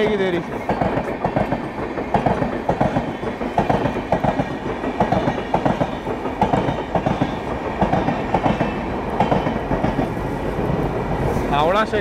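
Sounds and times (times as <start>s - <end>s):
train wheels clattering over rail joints: 0.0s - 11.7s
train rumble: 0.0s - 12.0s.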